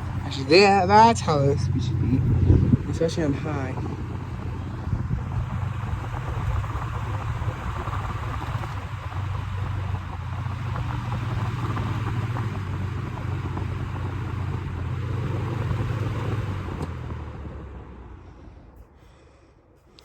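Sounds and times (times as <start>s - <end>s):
box fan running: 0.0s - 19.3s.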